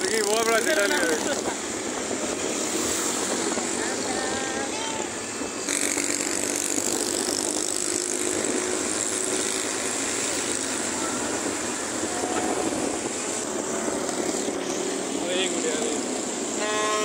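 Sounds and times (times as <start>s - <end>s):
wind rush over microphone: 0.0s - 16.5s
traffic noise: 0.0s - 17.0s.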